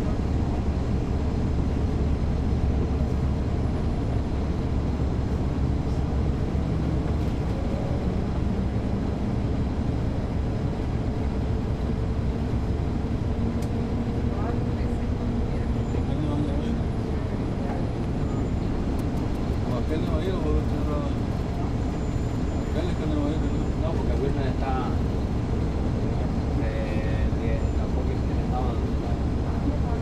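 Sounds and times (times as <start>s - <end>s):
bus diesel engine rumbling: 0.0s - 30.0s.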